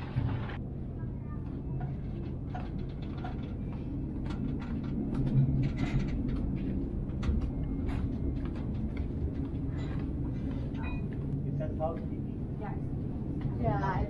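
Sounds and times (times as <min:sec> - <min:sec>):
ship interior rumble: 0:00.0 - 0:14.0.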